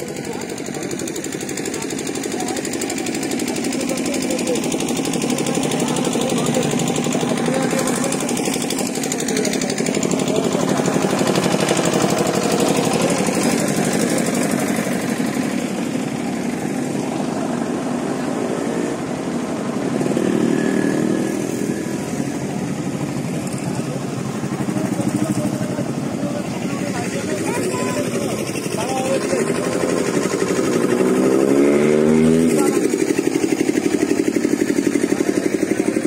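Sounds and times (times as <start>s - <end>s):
engine running loudly: 0.0s - 36.0s.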